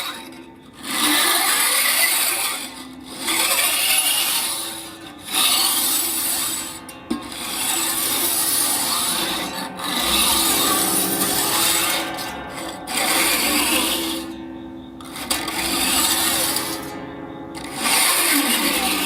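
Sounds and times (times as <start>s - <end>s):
glass being rubbed rasping: 0.8s - 14.4s, 15.0s - 17.0s
faint low ringing tone: 2.3s - 19.0s.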